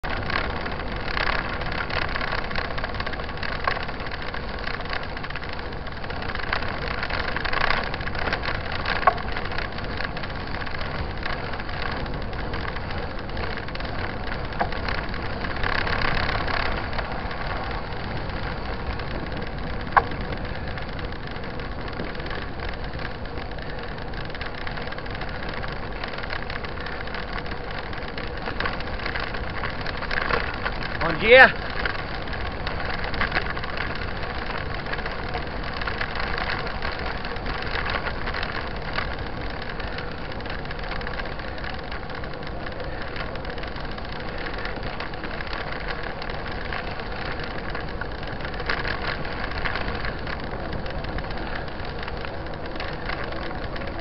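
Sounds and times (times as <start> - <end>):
bike tyres rumbling on dirt: 0.0 - 54.0.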